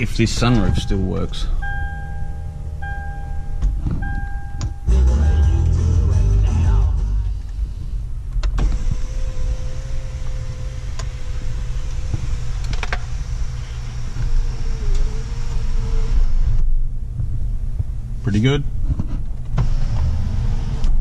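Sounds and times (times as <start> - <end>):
sunroof motor whining: 0.0 - 6.2, 7.3 - 17.2, 19.3 - 21.0
low steady rumble: 0.0 - 21.0.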